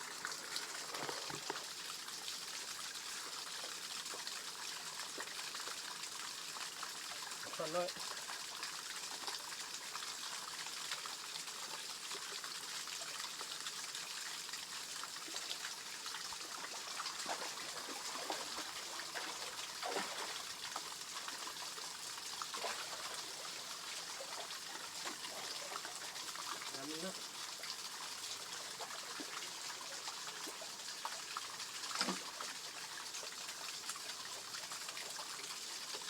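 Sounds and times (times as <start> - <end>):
water trickling over small waterfall: 0.0 - 36.0.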